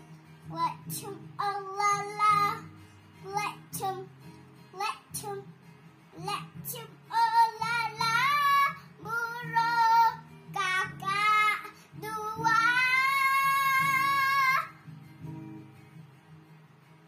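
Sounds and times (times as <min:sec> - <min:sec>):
girl singing: 0:00.0 - 0:14.9
acoustic guitar: 0:00.0 - 0:17.0.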